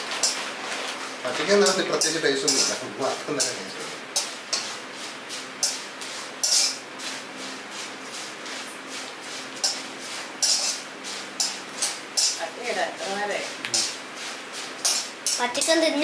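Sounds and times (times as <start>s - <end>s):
wire skimmer scraping pan: 0.0s - 15.5s
cornflakes sizzling in hot oil: 0.0s - 16.0s.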